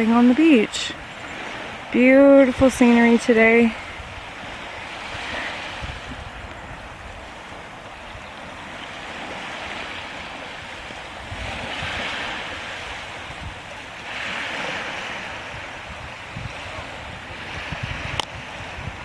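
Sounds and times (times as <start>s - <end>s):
small waves washing onto shore: 0.0s - 19.0s
wind rumbling on microphone: 0.0s - 19.0s.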